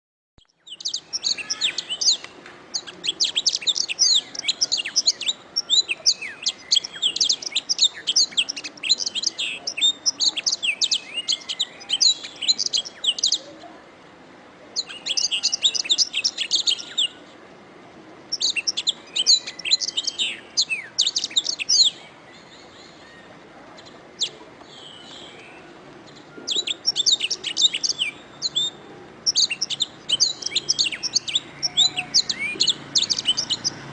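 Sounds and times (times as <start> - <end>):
canary singing: 0.4 - 13.6, 14.8 - 17.3, 18.3 - 33.9.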